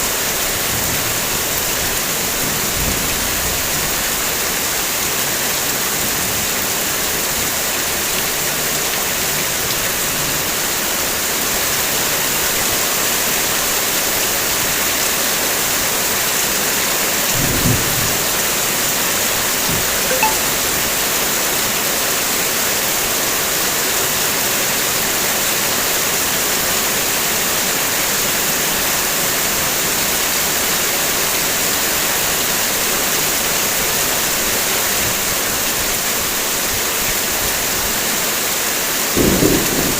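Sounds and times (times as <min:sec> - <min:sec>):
heavy rain on car roof: 0:00.2 - 0:20.0, 0:22.3 - 0:39.9.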